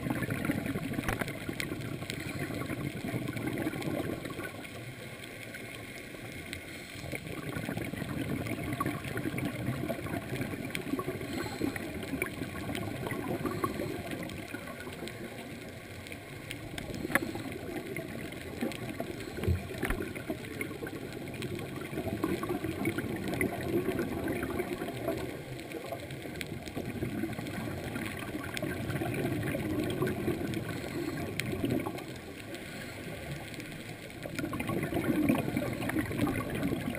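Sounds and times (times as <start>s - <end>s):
muffled underwater gurgling: 0.0s - 36.9s.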